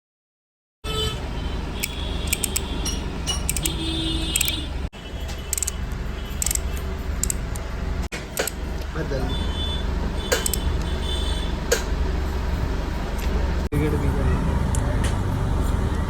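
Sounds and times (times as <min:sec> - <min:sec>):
traffic noise: 0:00.8 - 0:16.0.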